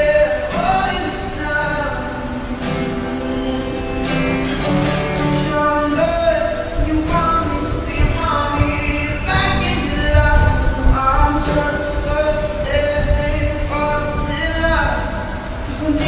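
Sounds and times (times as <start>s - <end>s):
person singing: 0.0s - 16.0s
strummed acoustic guitar: 0.0s - 16.0s.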